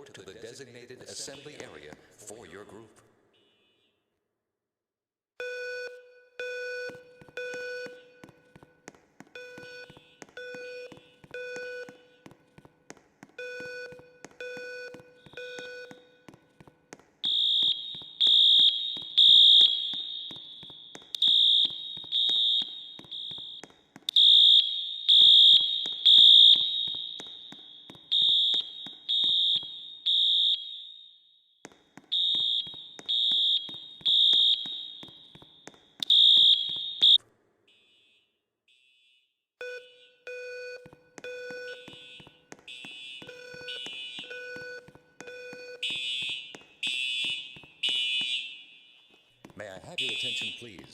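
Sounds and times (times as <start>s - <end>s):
fire alarm beeping: 5.4s - 50.9s.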